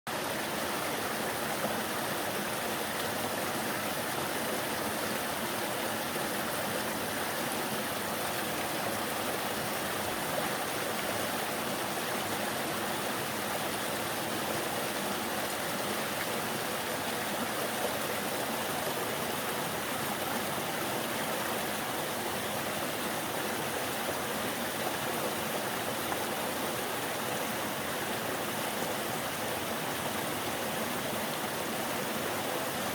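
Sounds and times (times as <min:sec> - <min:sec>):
stream water rushing: 0:00.1 - 0:32.9.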